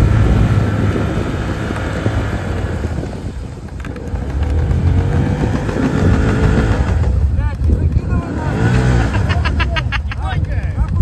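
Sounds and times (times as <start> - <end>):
quad bike engine under load: 0.0 - 11.0.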